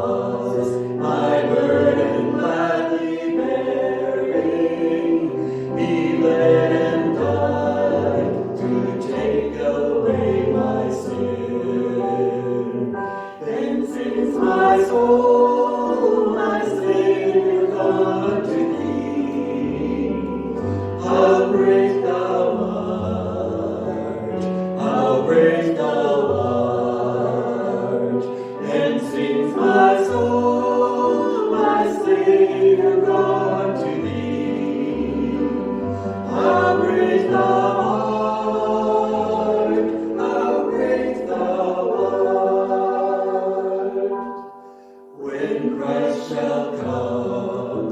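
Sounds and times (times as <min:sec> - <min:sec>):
group singing a worship song: 0:00.0 - 0:47.9.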